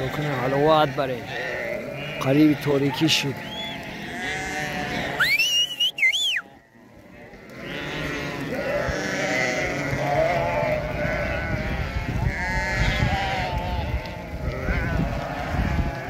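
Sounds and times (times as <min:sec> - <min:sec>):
sheep and goats bleating: 0:00.0 - 0:16.0.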